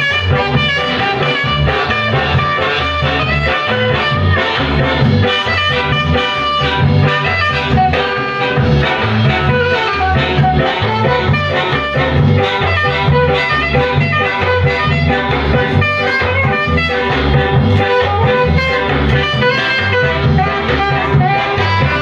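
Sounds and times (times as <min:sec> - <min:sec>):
ska music on a turntable: 0:00.0 - 0:22.0.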